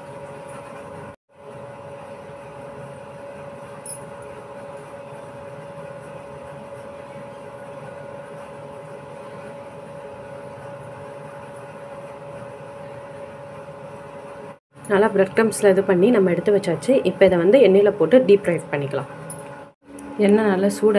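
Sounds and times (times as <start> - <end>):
steady mechanical hum: 0.0 - 20.9.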